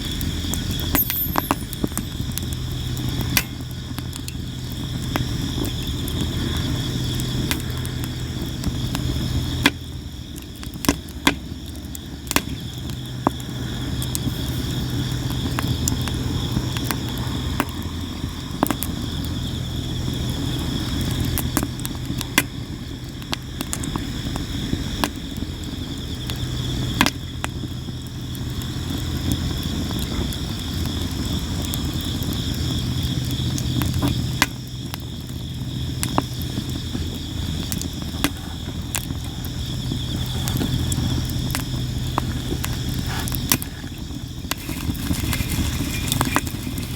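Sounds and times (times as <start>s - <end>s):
firewood crackling and popping: 0.0s - 46.9s
insects chirping: 0.0s - 46.9s.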